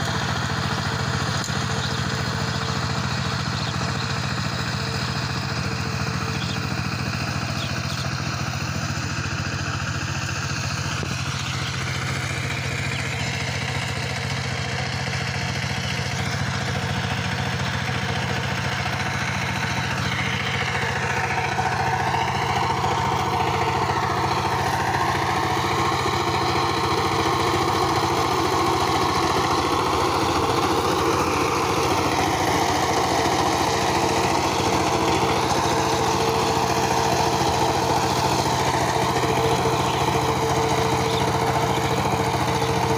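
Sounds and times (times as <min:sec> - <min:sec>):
diesel tiller engine running: 0:00.0 - 0:42.9
tiller cutting soil: 0:00.0 - 0:42.9.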